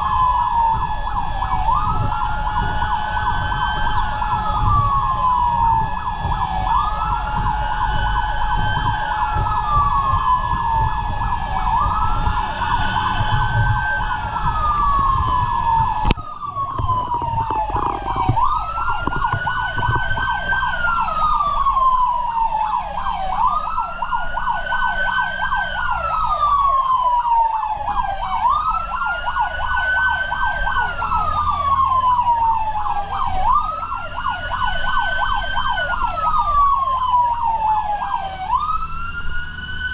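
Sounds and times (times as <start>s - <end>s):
electronic siren wailing: 0.0s - 39.9s
steady siren tone: 0.0s - 39.9s
truck engine rumble: 0.0s - 39.9s.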